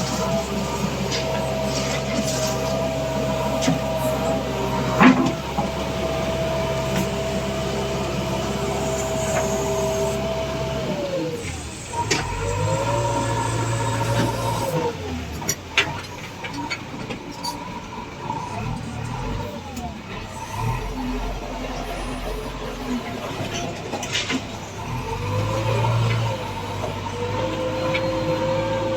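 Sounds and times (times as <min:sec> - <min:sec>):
diesel engine working: 0:00.0 - 0:28.9.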